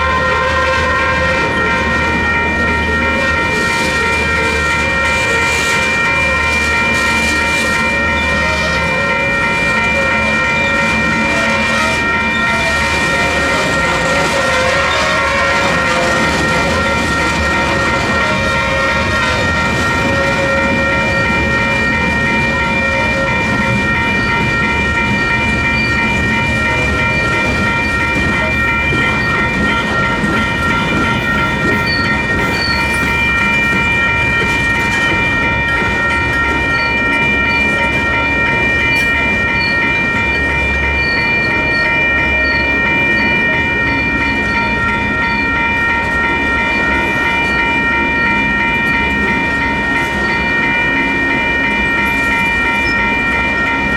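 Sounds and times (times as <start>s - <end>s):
freight train rumbling and clacking: 0.0s - 53.9s
railroad crossing bells ringing: 0.0s - 53.9s.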